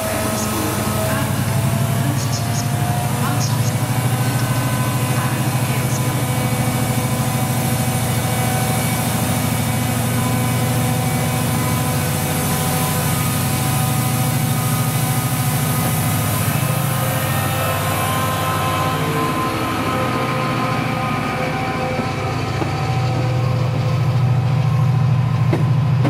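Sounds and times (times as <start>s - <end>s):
locomotive diesel engine throbbing: 0.0s - 26.0s.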